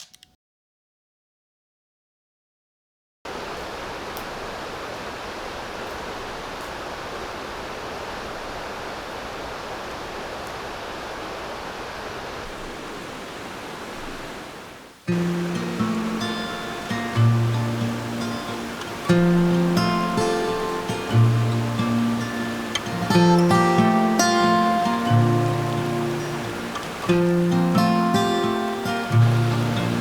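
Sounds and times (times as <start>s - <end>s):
water rushing: 3.3s - 30.0s.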